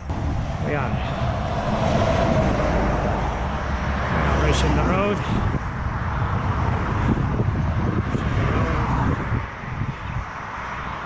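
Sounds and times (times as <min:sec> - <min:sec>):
car passing: 0:00.0 - 0:11.0
wind buffeting microphone: 0:00.0 - 0:11.0.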